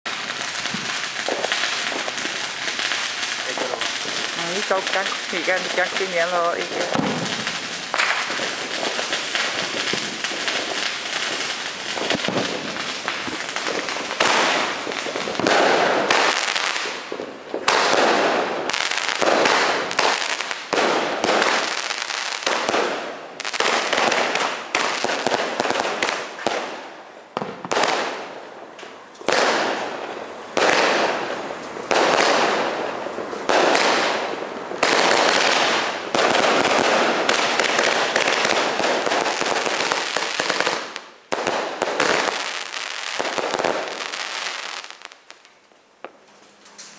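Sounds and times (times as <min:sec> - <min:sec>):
fireworks bangs with crackling: 0:00.0 - 0:46.3.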